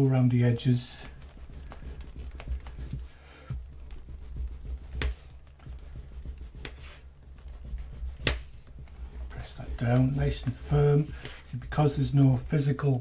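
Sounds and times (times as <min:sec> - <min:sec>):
low steady hum: 0:00.0 - 0:13.0
bone folder scraping leather: 0:01.0 - 0:12.6.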